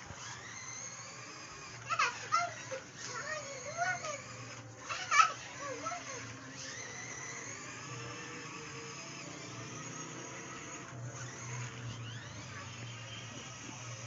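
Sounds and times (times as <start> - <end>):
toy electric motor whirring: 0.0 - 14.0.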